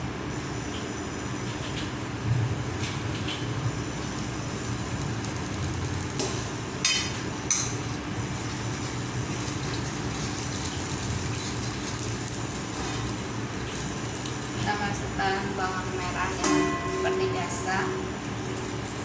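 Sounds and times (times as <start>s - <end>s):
stove humming: 0.0s - 19.0s.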